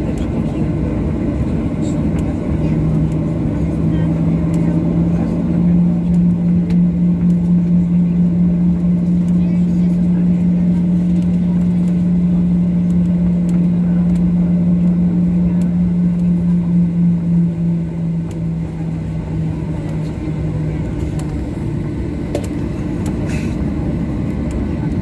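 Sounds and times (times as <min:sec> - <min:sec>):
jet engine rumble: 0:00.0 - 0:25.0
low wavering hum: 0:00.0 - 0:25.0.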